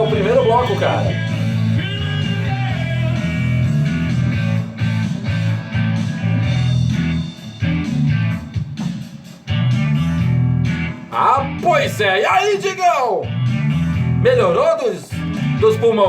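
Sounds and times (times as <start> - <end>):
rock music with guitar and bass: 0.0 - 16.0.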